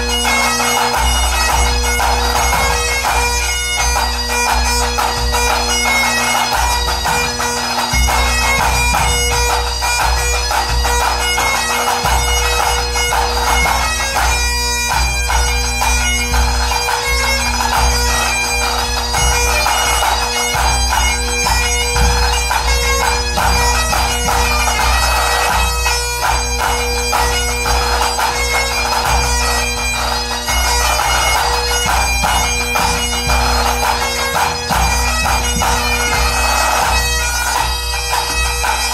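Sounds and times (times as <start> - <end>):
bagpipes playing a tune: 0.0 - 38.9.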